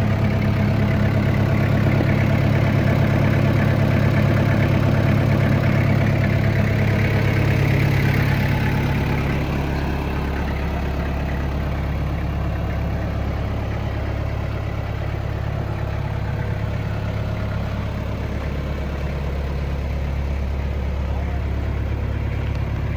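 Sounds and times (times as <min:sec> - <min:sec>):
diesel tractor engine idling: 0:00.0 - 0:22.9.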